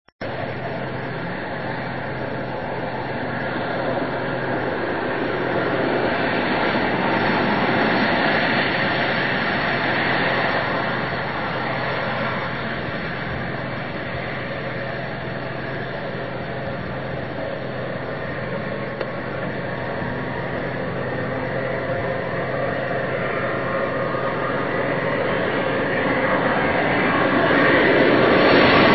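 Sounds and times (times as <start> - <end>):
highway vehicles rushing: 0.2 - 28.9.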